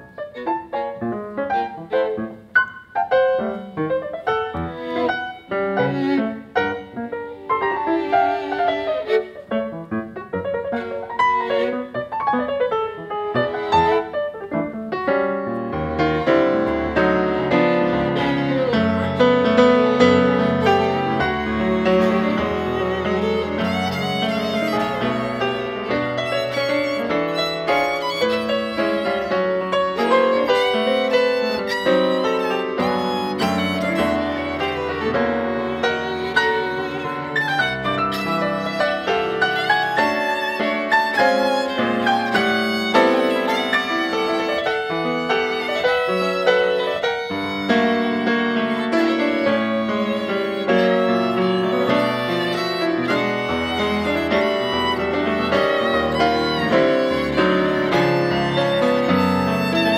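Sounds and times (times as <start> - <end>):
piano accompaniment: 0.0 - 59.9
solo violin melody: 0.0 - 59.9.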